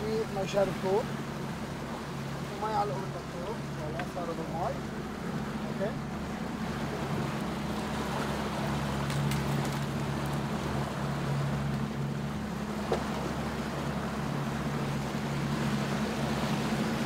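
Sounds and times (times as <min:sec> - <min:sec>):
motorboat engine running: 0:00.0 - 0:17.0
water wash: 0:00.0 - 0:17.0
wind: 0:00.0 - 0:17.0.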